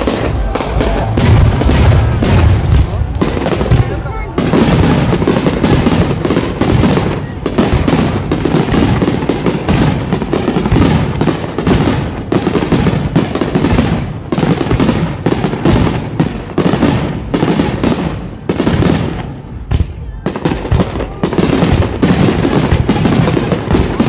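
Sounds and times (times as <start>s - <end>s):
fireworks crackling and booming: 0.0s - 24.0s.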